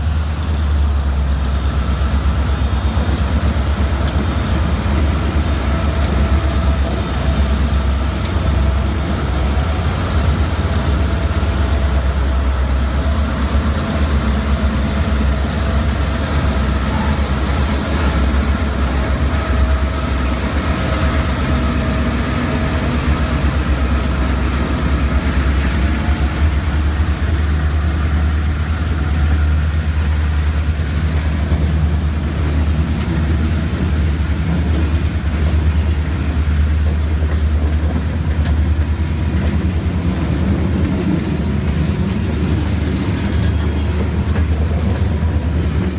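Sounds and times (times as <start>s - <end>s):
diesel locomotive engines rumbling: 0.0s - 45.9s
tank cars rolling on rails: 0.0s - 45.9s.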